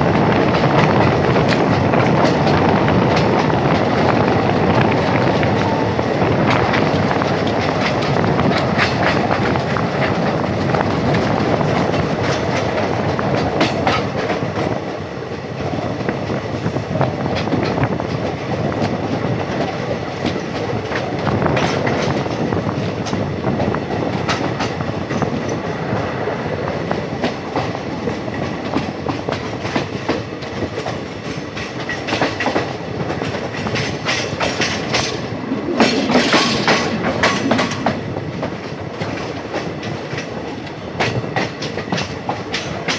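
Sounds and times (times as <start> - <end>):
wheels clacking over rail joints: 0.0 - 26.1, 26.8 - 42.9
train rumbling on track: 0.0 - 42.9.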